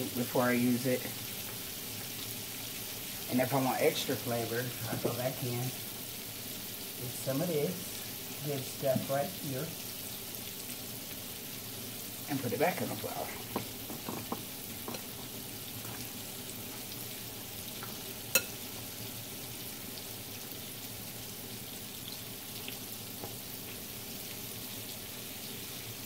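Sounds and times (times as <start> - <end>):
chicken frying in oil: 0.0 - 26.0.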